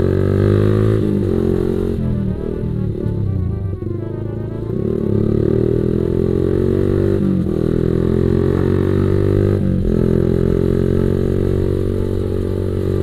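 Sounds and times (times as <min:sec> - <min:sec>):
motorcycle engine shifting gears: 0:00.0 - 0:13.0.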